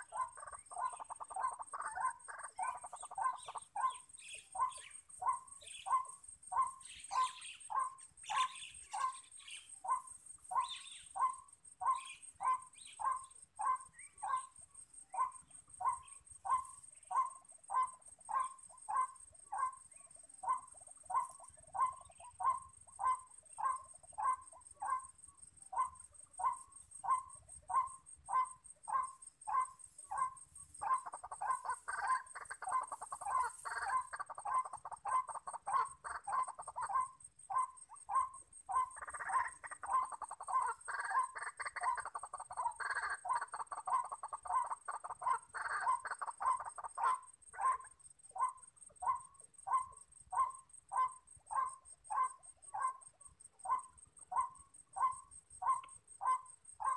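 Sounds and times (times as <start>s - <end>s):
bird croaking calls: 0.0s - 56.9s.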